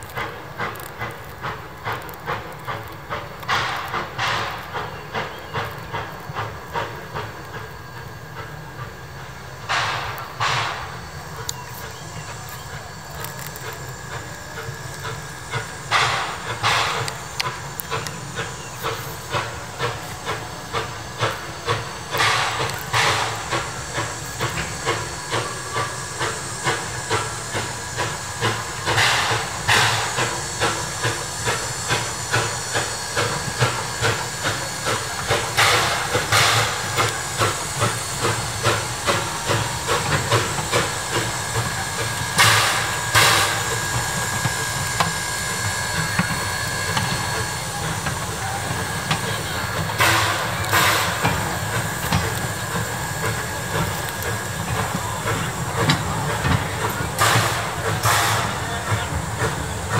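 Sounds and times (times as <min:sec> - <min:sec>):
hissing steam blasts: 0:00.0 - 0:59.9
steam hissing: 0:00.0 - 0:59.9
steam locomotive exhaust chuffs: 0:00.0 - 0:59.9.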